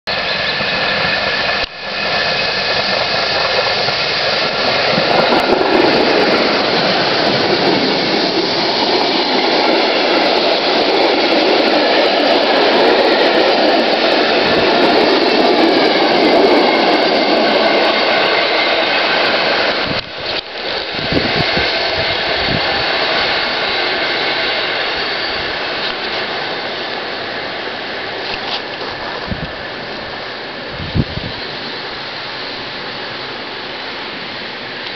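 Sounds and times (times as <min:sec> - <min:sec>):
train passing on rails: 0:00.1 - 0:34.9.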